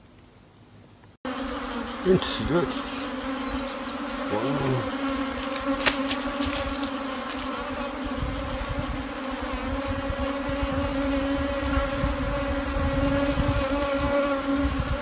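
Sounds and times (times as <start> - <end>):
bees buzzing: 1.3 - 15.0.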